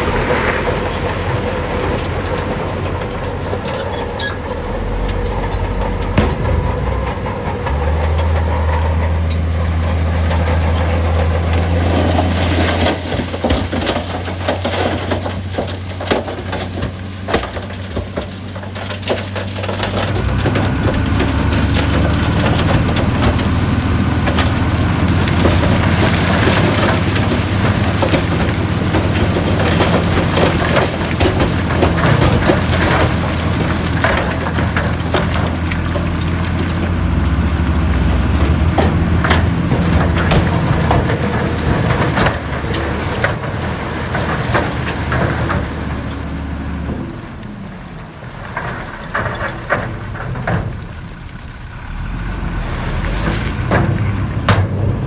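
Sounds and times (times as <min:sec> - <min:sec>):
heavy diesel machinery running: 0:00.0 - 0:55.0
metal clanks and rattles: 0:00.9 - 0:55.0.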